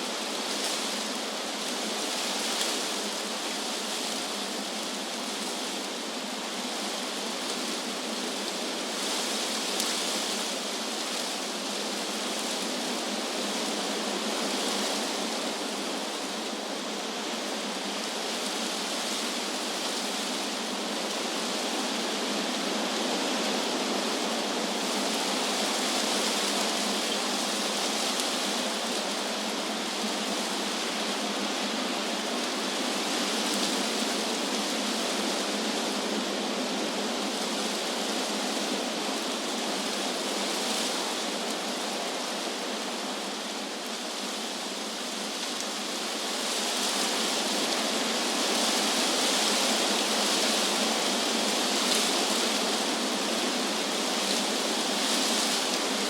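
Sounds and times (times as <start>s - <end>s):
wind rustling tree leaves: 0.0s - 56.0s.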